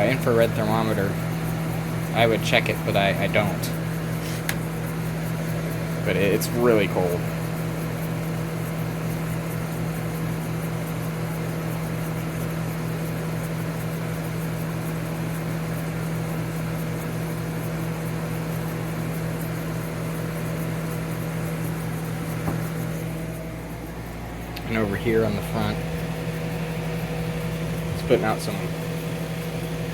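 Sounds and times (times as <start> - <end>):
compressor hum: 0.0 - 29.9
fan blowing air: 0.0 - 29.9.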